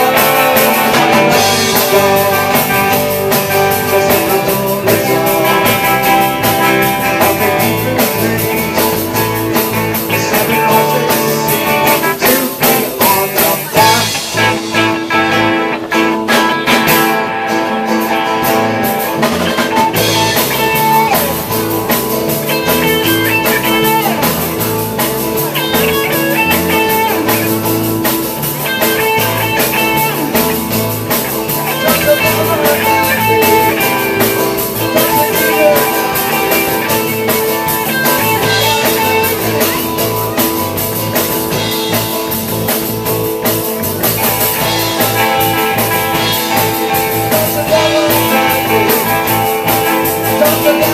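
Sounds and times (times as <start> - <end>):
bass line: 0.0 - 50.9
drum kit beat: 0.0 - 50.9
lead guitar: 0.0 - 50.9.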